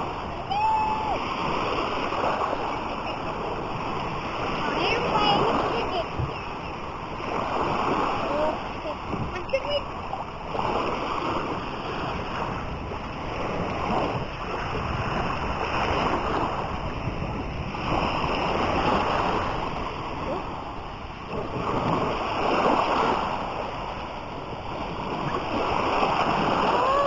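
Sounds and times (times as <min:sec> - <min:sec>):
sea waves washing onto beach: 0:00.0 - 0:27.0.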